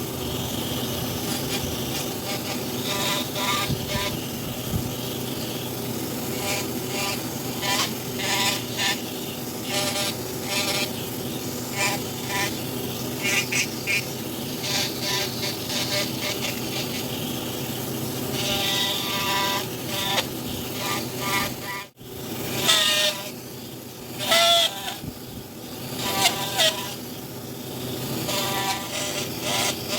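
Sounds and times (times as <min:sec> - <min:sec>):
power carving tool grinding wood: 0:00.0 - 0:29.9.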